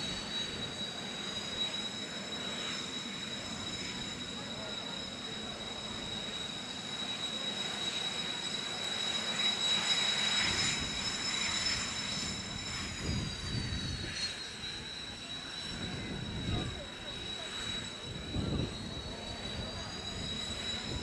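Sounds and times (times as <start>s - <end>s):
jet engine high-pitched whine: 0.0s - 21.0s
jet engine rushing roar: 0.0s - 21.0s.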